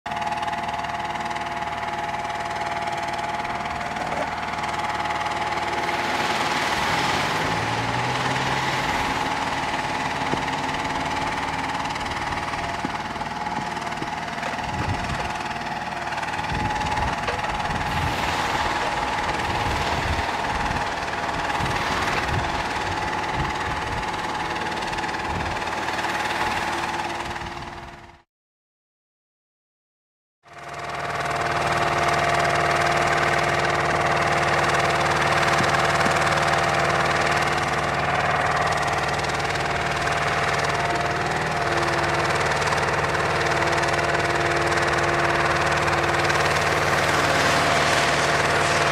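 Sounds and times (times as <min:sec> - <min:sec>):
truck engine rough rumble: 0:00.1 - 0:28.2, 0:30.5 - 0:48.9.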